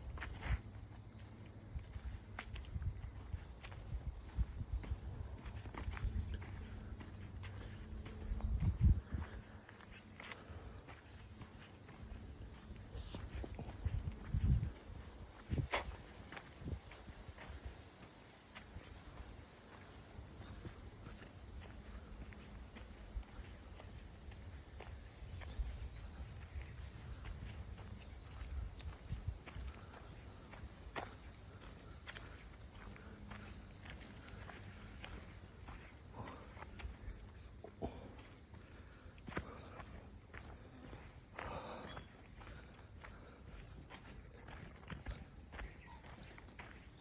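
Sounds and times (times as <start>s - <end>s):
footsteps crunching on a trail: 0.0s - 47.0s
insects droning: 0.0s - 47.0s.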